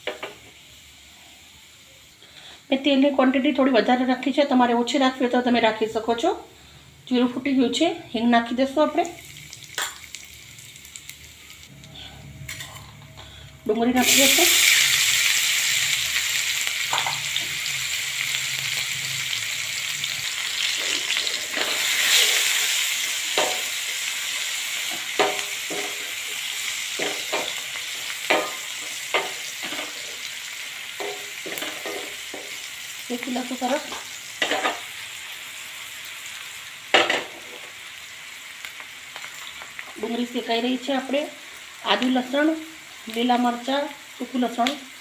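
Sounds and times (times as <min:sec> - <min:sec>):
onions sizzling in oil: 0:00.0 - 0:45.0.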